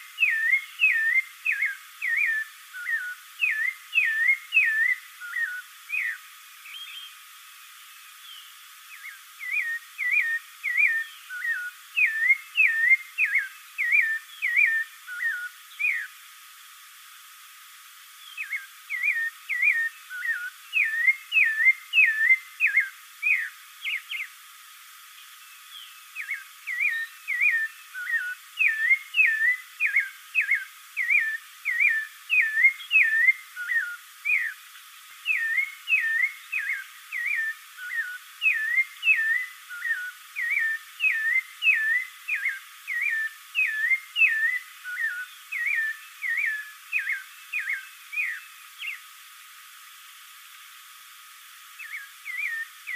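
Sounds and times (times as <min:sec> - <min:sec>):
thrush singing whistled notes: 0:00.0 - 0:16.2, 0:18.2 - 0:24.4, 0:25.1 - 0:49.2, 0:51.7 - 0:52.9.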